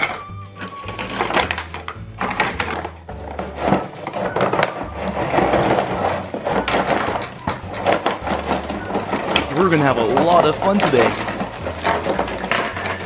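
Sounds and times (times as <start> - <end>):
cardboard packaging rustling: 0.0 - 13.0
plastic pieces clicking together: 0.0 - 13.0
quiet background music: 0.0 - 13.0.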